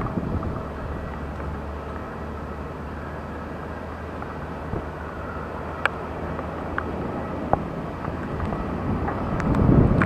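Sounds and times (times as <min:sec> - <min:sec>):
distant jet engines rumbling: 0:00.0 - 0:10.0
heavy rain rushing: 0:00.0 - 0:10.0.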